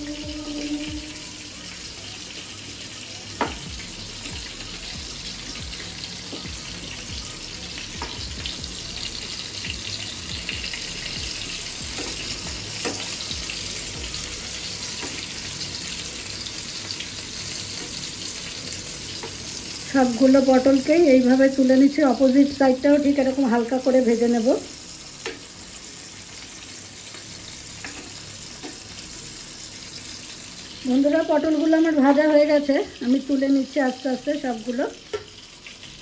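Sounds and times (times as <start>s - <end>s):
food sizzling in oil: 0.0s - 36.0s.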